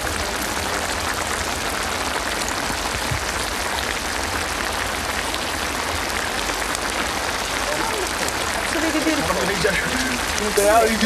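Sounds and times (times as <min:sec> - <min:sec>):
paella sizzling and bubbling: 0:00.0 - 0:11.0.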